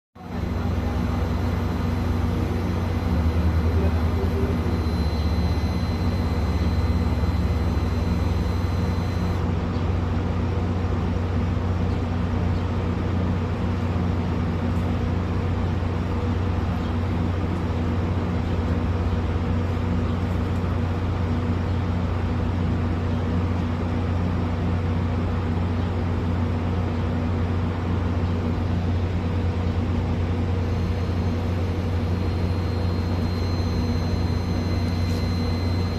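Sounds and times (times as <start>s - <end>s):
low mechanical hum: 0.2s - 35.9s.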